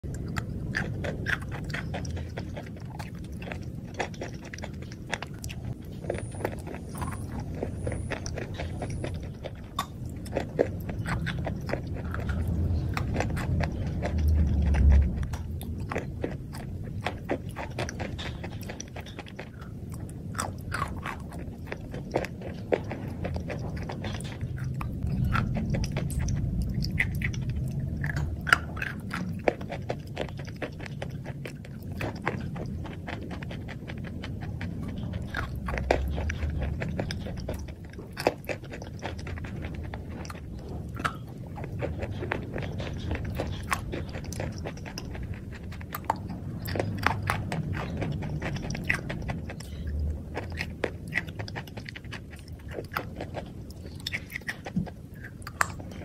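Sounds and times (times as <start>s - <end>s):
wet chewing with crunches: 0.0s - 56.0s.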